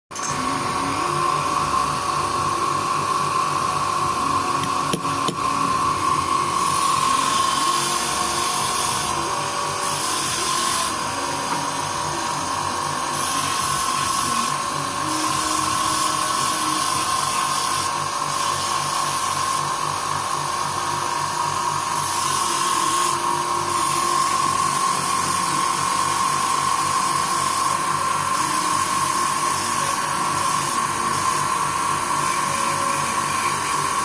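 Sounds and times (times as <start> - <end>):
power tool high whine: 0.1 - 34.0.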